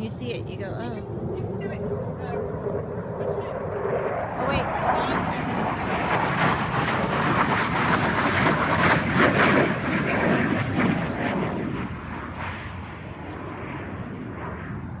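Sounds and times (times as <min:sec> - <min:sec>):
airplanes roaring past: 0:00.0 - 0:15.0.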